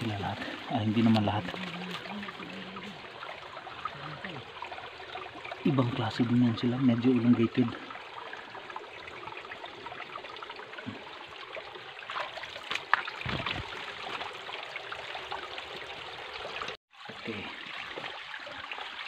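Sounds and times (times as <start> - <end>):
stream babbling over rocks: 0.0 - 19.0.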